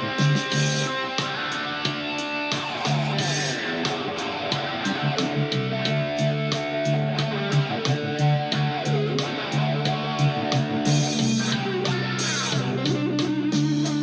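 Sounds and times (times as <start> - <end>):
guitar melody with sliding notes: 0.0 - 14.0.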